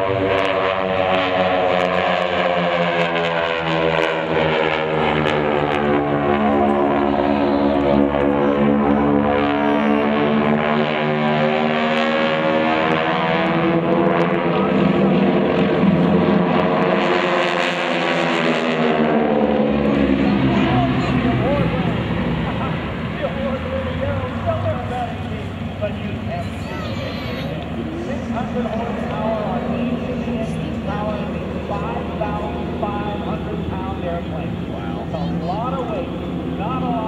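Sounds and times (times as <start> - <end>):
propeller aircraft engines passing: 0.0 - 37.0.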